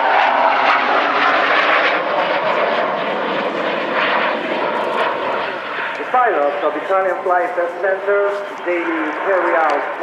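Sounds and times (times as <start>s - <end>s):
jet engine rushing: 0.0s - 10.0s.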